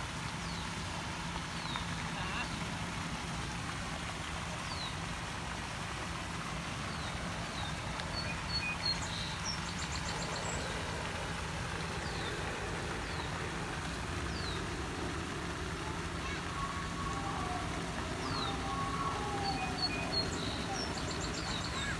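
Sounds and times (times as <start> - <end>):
fountain spray splashing: 0.0 - 21.9.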